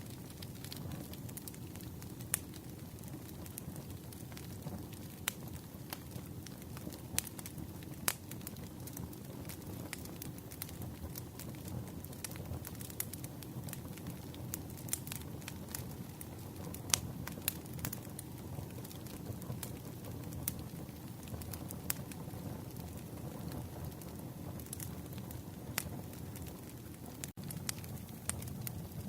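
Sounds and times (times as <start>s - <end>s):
campfire crackling and popping: 0.0s - 29.0s
low rush of flame: 0.0s - 29.0s.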